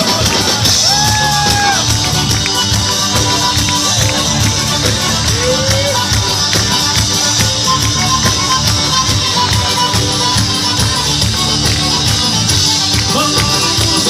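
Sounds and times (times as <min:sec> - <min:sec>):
instrumental folk dance music: 0:00.0 - 0:14.0.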